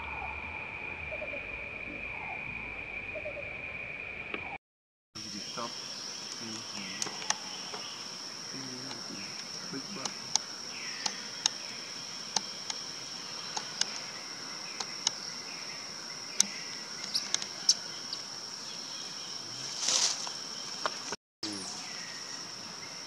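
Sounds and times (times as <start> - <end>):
high-pitched insect drone: 0.0 - 4.6, 5.2 - 23.0.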